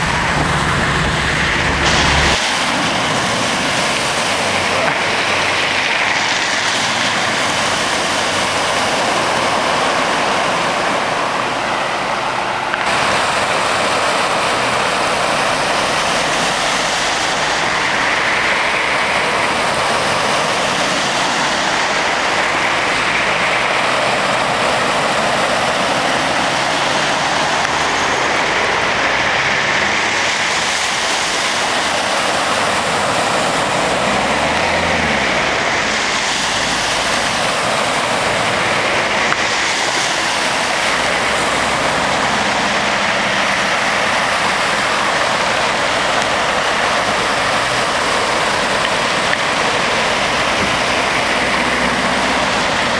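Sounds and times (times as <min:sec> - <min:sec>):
floodwater rushing: 0:00.0 - 0:52.9
vehicle wheels splashing water: 0:00.0 - 0:52.9.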